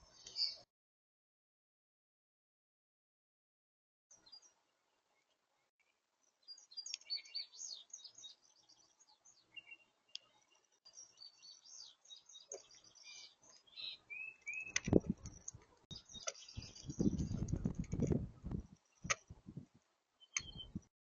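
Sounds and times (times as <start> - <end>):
songbirds chirping: 0.0 - 0.7, 4.1 - 20.9.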